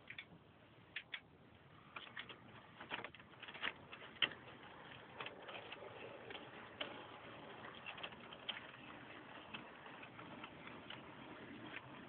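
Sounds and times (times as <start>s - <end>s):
model train wheels clicking: 1.0s - 12.0s.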